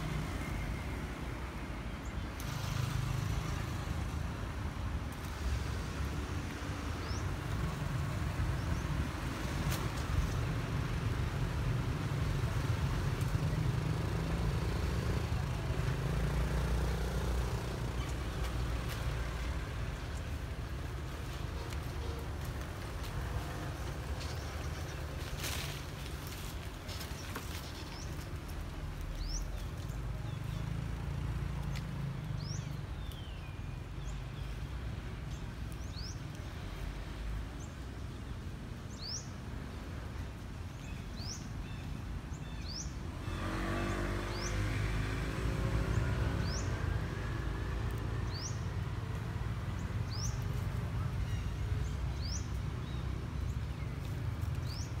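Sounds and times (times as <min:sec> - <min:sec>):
engine hum: 0:00.0 - 0:37.4, 0:42.5 - 0:55.0.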